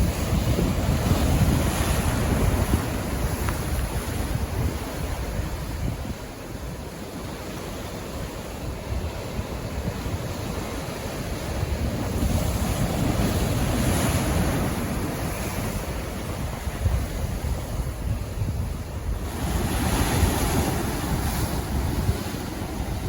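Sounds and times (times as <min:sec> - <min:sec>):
ocean waves washing in: 0:00.0 - 0:23.0
wind rumbling on microphone: 0:00.0 - 0:23.0.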